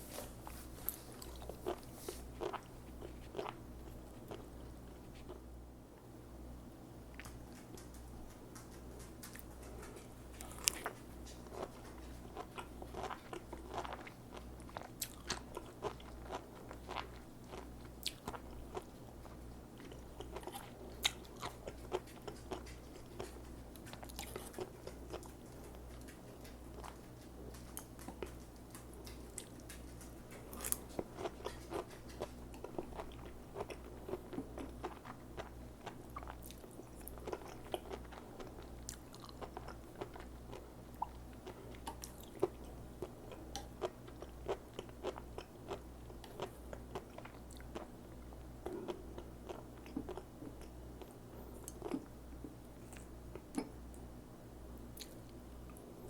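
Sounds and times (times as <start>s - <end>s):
low steady hum: 0.0s - 56.0s
crisp crunching chewing: 0.4s - 5.4s, 8.6s - 53.8s.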